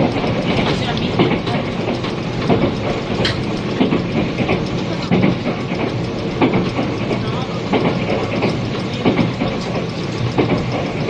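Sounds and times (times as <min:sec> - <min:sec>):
rail-joint clacks: 0:00.0 - 0:11.0
train wheels rumbling on rail: 0:00.0 - 0:11.0.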